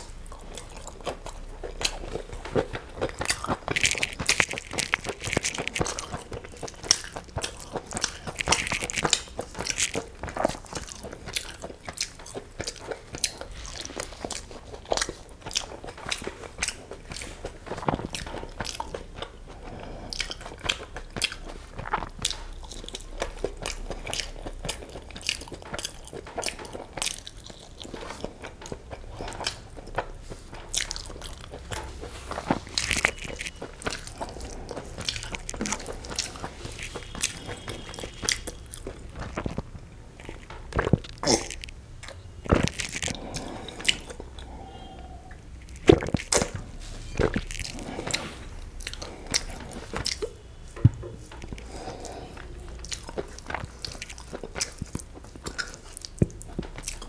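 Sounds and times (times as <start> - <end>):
close chewing with wet mouth clicks: 0.0 - 57.0.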